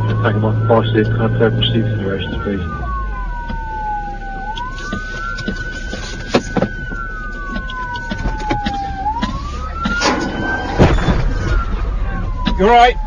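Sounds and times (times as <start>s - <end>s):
engine rumble: 0.0s - 13.0s
police siren wailing: 0.0s - 13.0s.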